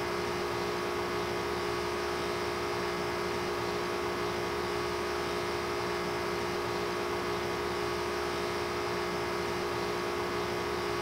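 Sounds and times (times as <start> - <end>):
electrical hum with held tones: 0.0 - 11.0.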